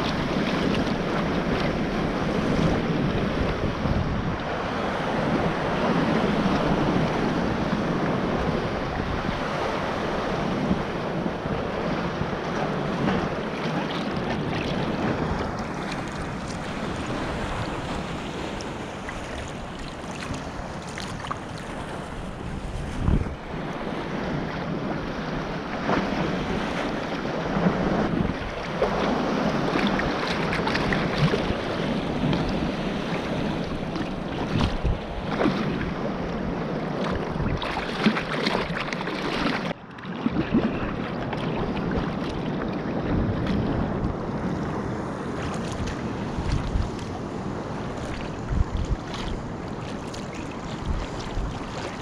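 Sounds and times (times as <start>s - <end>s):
water splashing against kayak: 0.0s - 52.0s
wind buffeting microphone: 0.0s - 52.0s.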